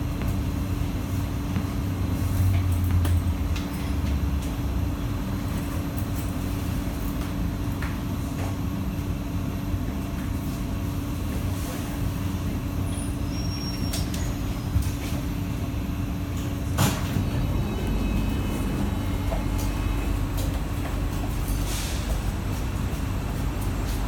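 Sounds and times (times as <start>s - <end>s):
train rumble and hum: 0.0s - 24.0s.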